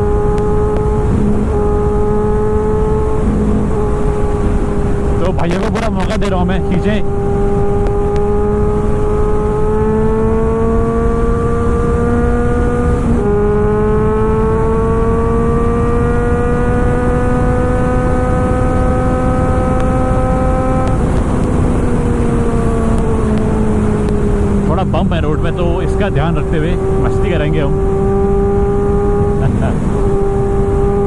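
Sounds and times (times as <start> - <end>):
motorcycle engine accelerating hard: 0.0 - 31.0
wind noise rumble: 0.0 - 31.0.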